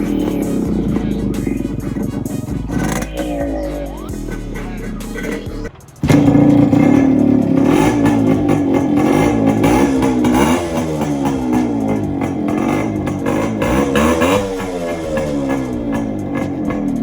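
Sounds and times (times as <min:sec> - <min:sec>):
guitar music: 0:00.0 - 0:17.0
motorcycle engine revving: 0:00.0 - 0:17.0.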